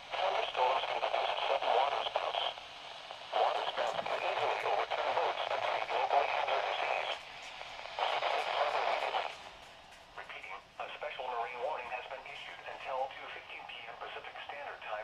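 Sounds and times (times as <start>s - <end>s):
automated voice through tinny speaker: 0.0s - 2.6s, 3.3s - 9.4s, 10.2s - 15.0s.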